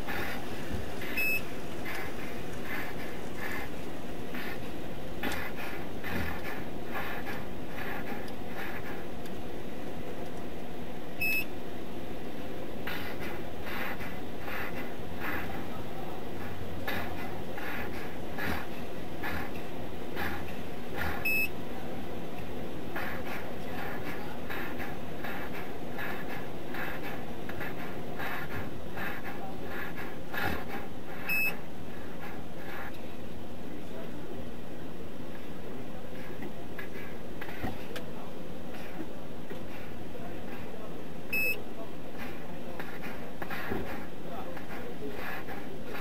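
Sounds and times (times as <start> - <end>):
microphone hiss: 0.0 - 46.0.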